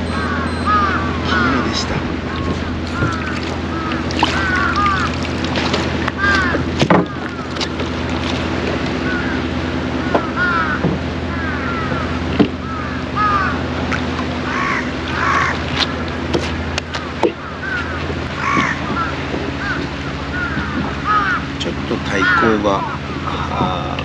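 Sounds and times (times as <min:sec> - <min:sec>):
birds harsh cries: 0:00.0 - 0:23.5
low motor hum: 0:00.0 - 0:24.0.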